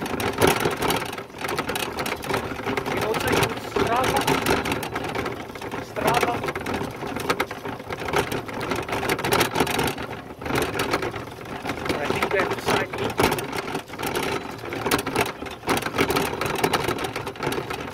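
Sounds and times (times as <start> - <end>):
bicycle rattling clatter: 0.0 - 17.9.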